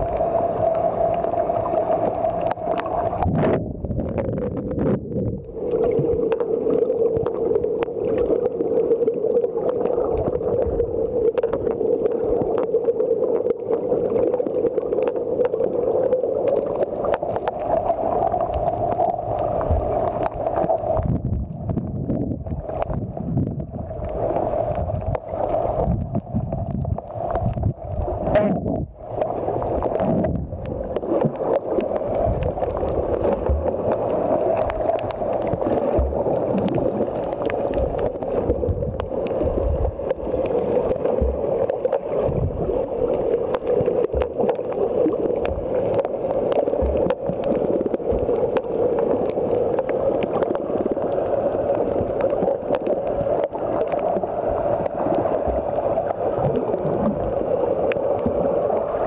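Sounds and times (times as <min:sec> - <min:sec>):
underwater gurgling rush: 0:00.0 - 0:59.0.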